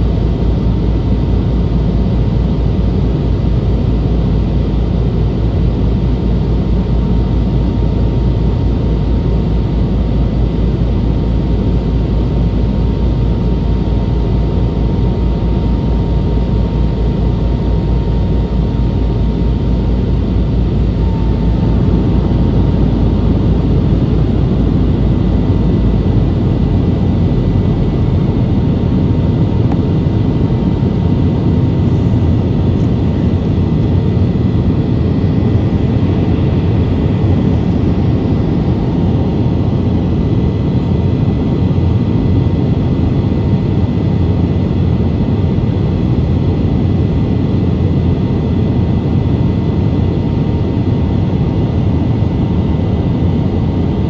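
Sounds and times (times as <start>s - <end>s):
airliner engine rumble in cabin: 0.0s - 54.0s.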